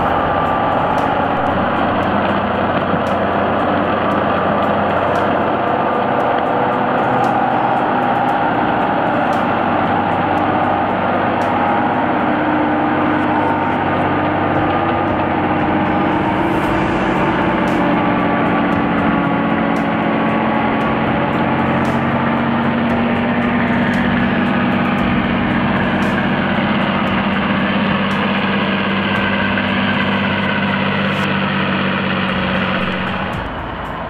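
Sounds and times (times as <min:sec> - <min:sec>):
heavy truck engine under load: 0:00.0 - 0:34.0.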